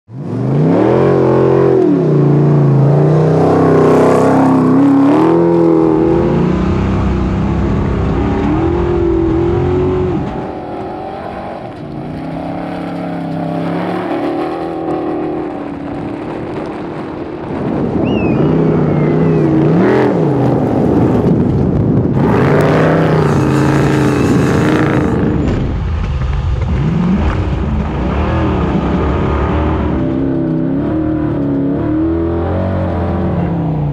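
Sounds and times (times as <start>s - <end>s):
buggy engine revving: 0.1s - 33.9s.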